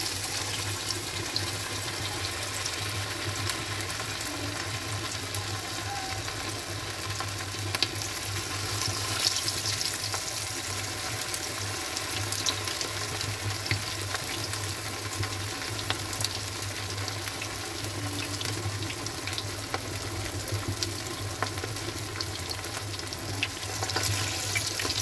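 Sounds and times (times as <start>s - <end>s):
chicken deep-frying in oil: 0.0s - 25.0s.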